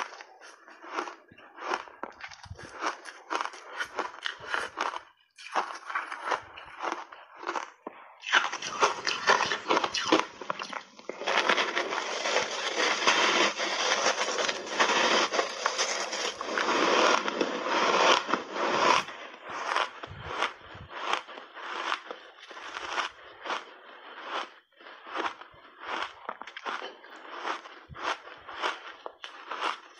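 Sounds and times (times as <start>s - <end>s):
ice crunching being chewed: 0.0s - 29.9s.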